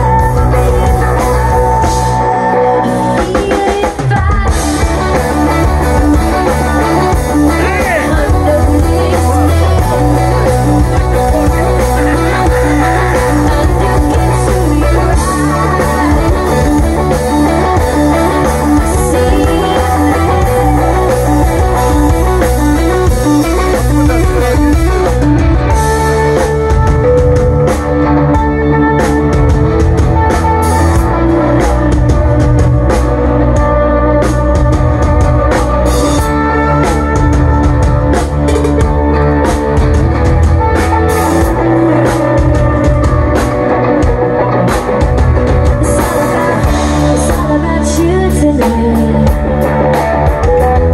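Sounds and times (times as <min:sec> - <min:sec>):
bass guitar: 0:00.0 - 0:50.9
drum kit: 0:00.0 - 0:50.9
electric guitar riff: 0:00.0 - 0:50.9.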